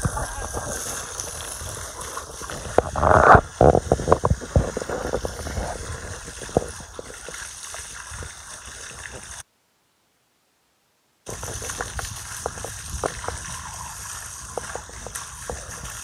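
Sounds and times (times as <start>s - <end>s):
hose water spraying: 0.0s - 9.4s, 11.3s - 16.0s
water splashing on concrete: 0.0s - 9.4s, 11.3s - 16.0s.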